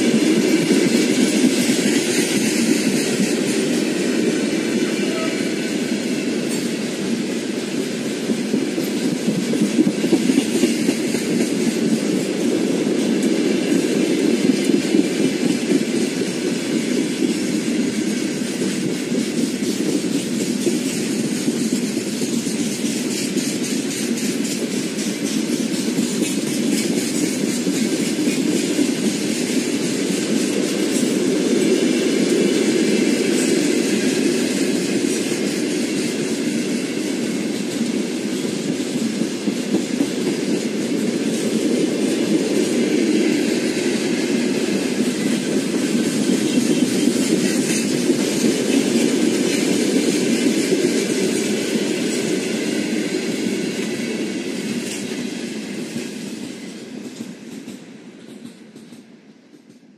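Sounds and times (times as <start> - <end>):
train wheels rumbling on rails: 0.0 - 59.9
wheels clicking over rail joints: 5.9 - 59.8.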